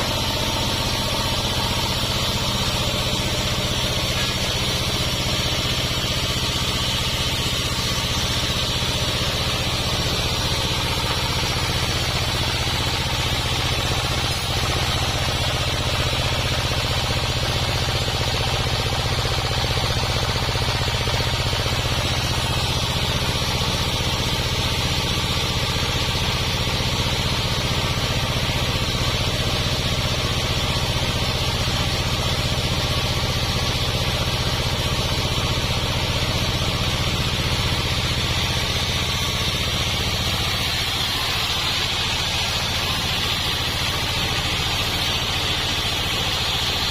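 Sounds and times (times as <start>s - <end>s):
sawmill engine hum: 0.0s - 46.9s.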